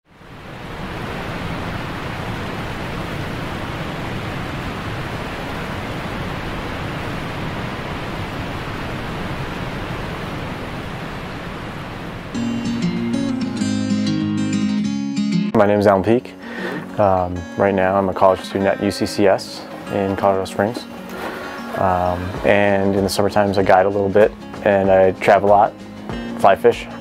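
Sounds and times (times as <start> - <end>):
creek water rushing: 0.1 - 12.8, 15.6 - 27.0.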